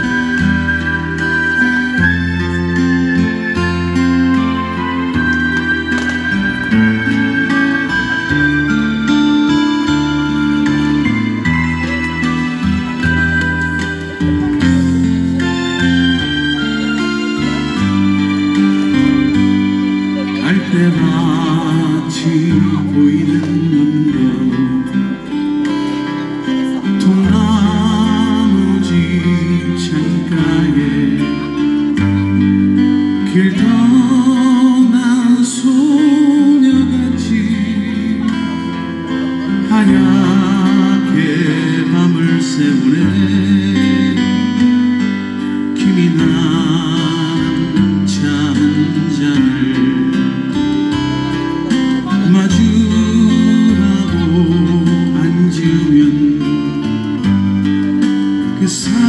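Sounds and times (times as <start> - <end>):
acoustic guitar strumming: 0.0 - 59.0
bass line: 0.0 - 59.0
man singing into microphone: 0.0 - 59.0.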